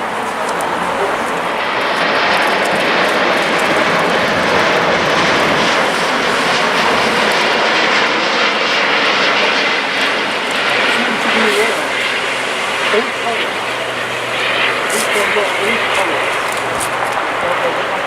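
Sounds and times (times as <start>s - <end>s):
jet airliner engines passing: 0.0s - 18.0s.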